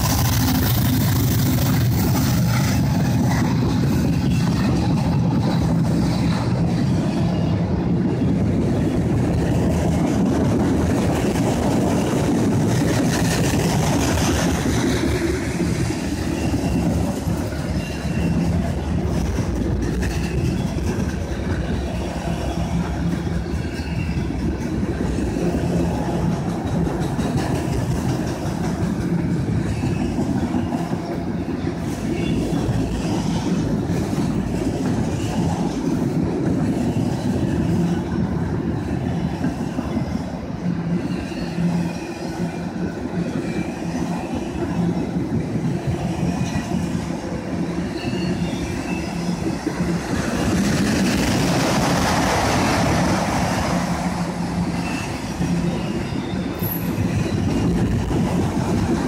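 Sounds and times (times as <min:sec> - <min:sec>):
steel wheels running on rails: 0:00.0 - 0:59.0.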